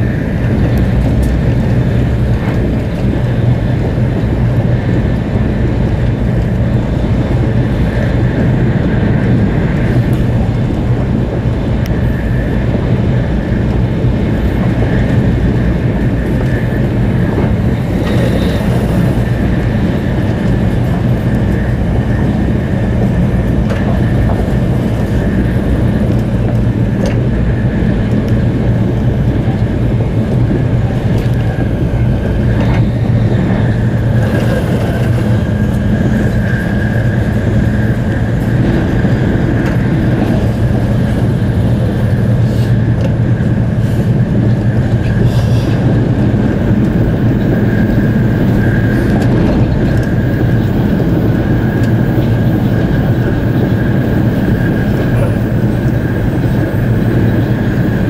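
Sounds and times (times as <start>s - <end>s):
train rumble inside cabin: 0.0s - 58.0s.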